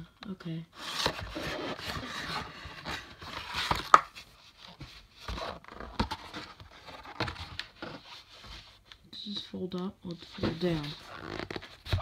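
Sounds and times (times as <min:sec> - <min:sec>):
cardboard packaging rustling: 0:00.7 - 0:08.8, 0:10.2 - 0:12.0.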